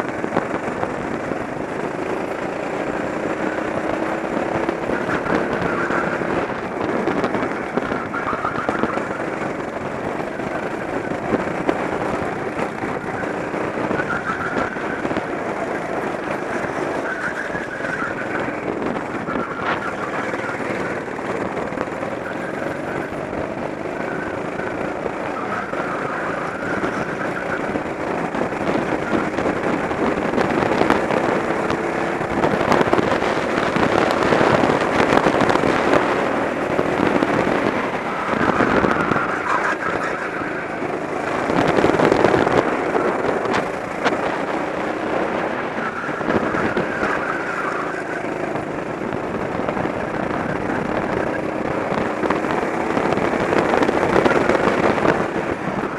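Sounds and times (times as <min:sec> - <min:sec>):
kart engine revving: 0:00.0 - 0:55.9.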